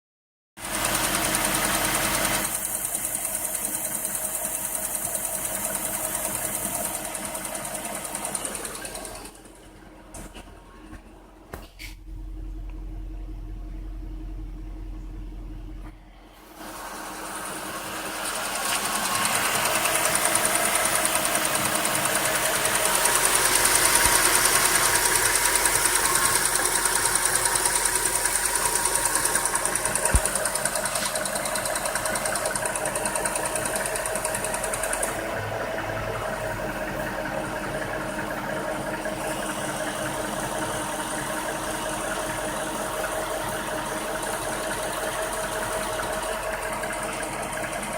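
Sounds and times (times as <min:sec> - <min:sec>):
loud rapid engine ticking: 0:00.6 - 0:09.8, 0:16.7 - 0:47.9
car engine idling: 0:00.6 - 0:47.9.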